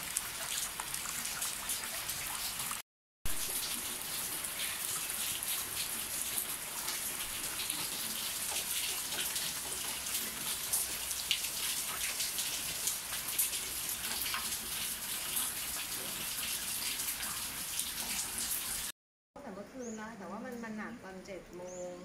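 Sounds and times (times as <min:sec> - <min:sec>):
heavy rain on concrete: 0:00.0 - 0:18.9.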